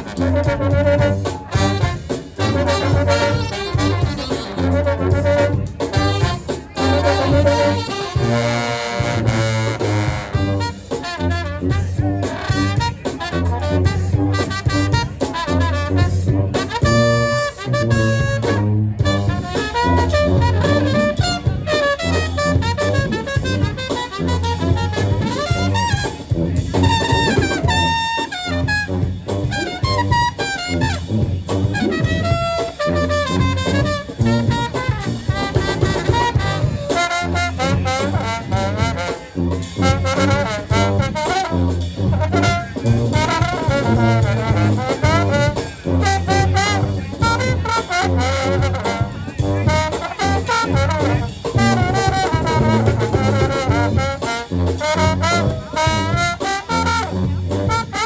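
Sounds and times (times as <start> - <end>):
brass band playing jazz-funk: 0.0 - 58.0.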